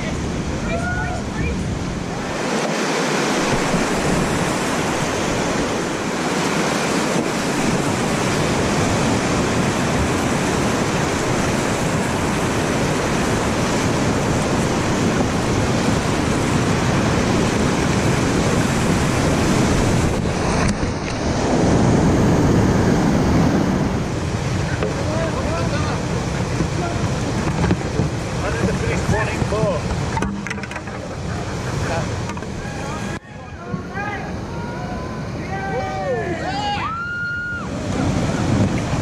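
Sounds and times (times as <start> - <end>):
whitewater rapids rushing: 0.0 - 39.0.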